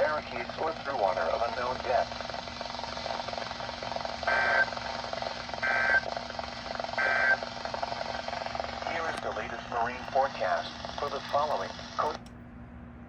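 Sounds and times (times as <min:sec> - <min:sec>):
radio hiss: 0:00.0 - 0:12.3.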